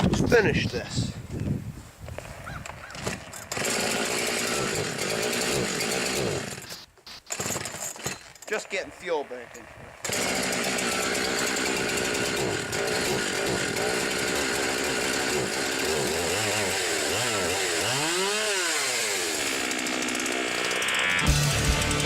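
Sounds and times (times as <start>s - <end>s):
chainsaw engine revving: 2.8s - 22.0s.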